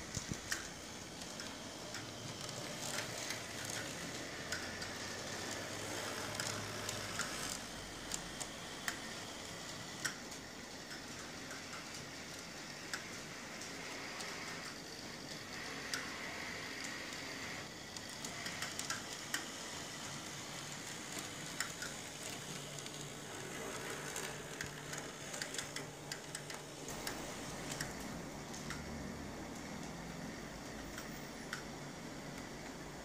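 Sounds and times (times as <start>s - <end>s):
model streetcar motor whir: 0.0s - 33.0s
wheels clicking on rails: 0.0s - 33.0s.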